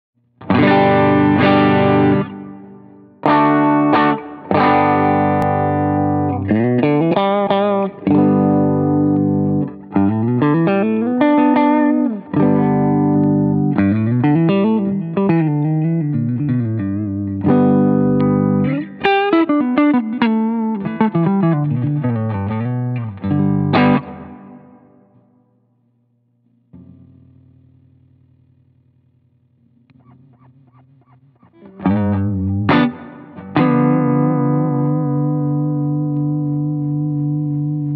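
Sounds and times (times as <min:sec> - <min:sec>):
choked guitar strums: 0:00.4 - 0:25.2, 0:26.6 - 0:28.9, 0:29.7 - 0:37.9
electric guitar with vibe effect: 0:00.4 - 0:25.6, 0:26.5 - 0:37.9.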